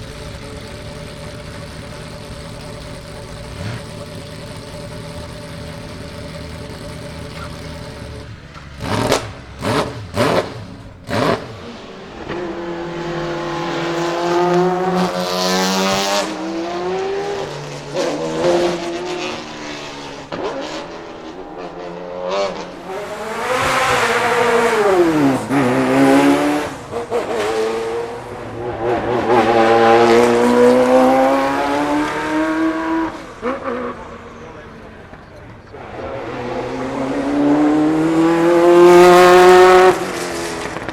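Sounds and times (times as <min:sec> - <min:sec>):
car engine revving and accelerating: 0:00.0 - 0:40.9.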